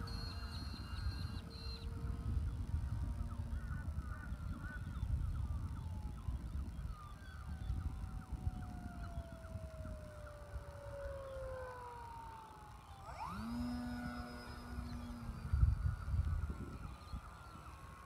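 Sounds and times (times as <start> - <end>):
model plane motor humming: 0.0 - 18.0
wind rumbling on microphone: 0.0 - 18.0.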